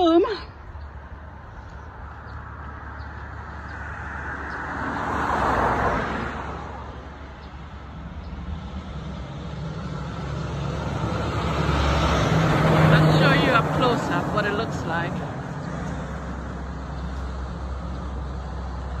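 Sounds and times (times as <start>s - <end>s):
vehicle approaching: 0.0s - 19.0s
car passing by: 2.0s - 19.0s.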